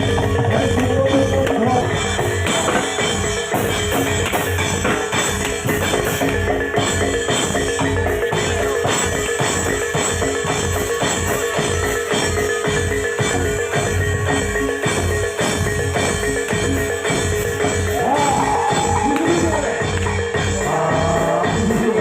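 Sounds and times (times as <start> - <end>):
fast dense drumming: 0.0 - 22.0
metal mallet percussion: 0.0 - 22.0.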